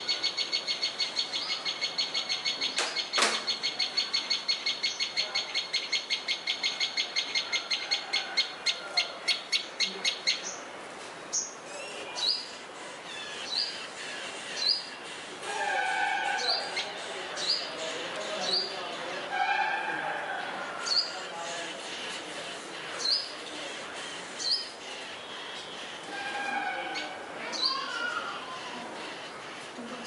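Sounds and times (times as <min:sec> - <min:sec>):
small birds chirping: 0:00.0 - 0:10.7, 0:11.3 - 0:15.4, 0:16.4 - 0:19.3, 0:20.8 - 0:26.1, 0:26.9 - 0:30.0.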